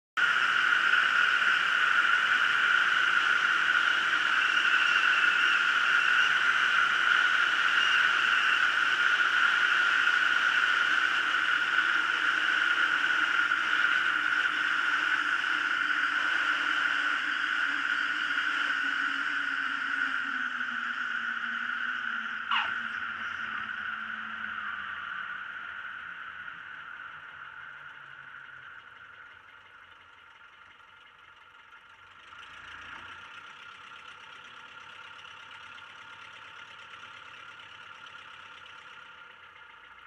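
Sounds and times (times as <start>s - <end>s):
aircraft engine and propeller droning: 0.2s - 39.9s.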